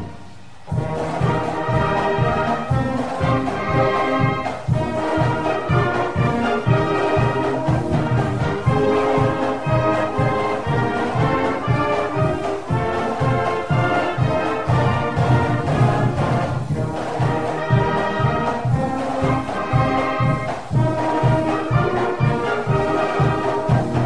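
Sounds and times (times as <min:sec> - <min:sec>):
brass instrumental music: 0:00.0 - 0:24.0.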